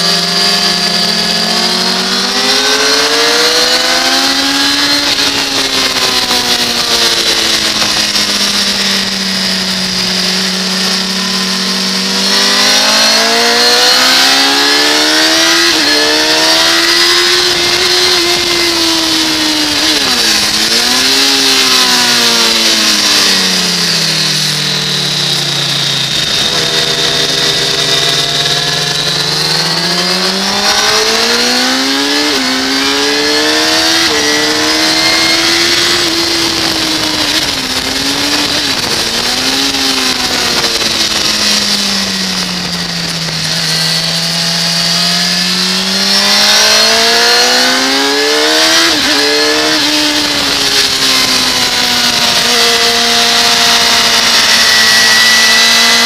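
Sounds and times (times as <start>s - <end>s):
motorcycle engine accelerating: 0.0s - 56.0s
wind rushing over microphone: 0.6s - 56.0s.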